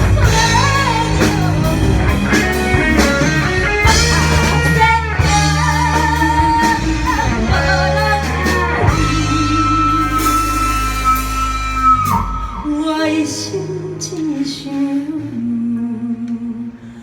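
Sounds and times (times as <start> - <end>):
instrumental backing music: 0.0 - 17.0
person singing pop song: 0.0 - 17.0.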